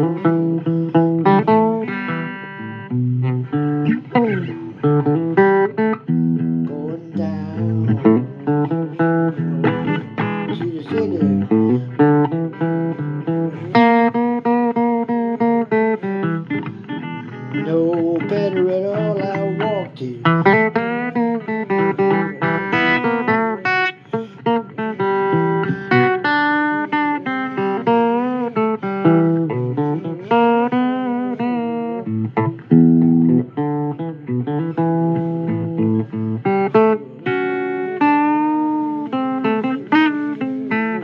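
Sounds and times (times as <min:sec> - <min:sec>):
blues guitar with bent notes: 0:00.0 - 0:41.0.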